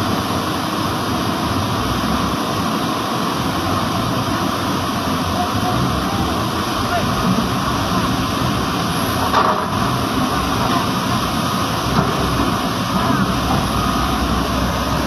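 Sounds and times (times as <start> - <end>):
excavator diesel engine running: 0.0 - 15.0
river rapids rushing: 0.0 - 15.0.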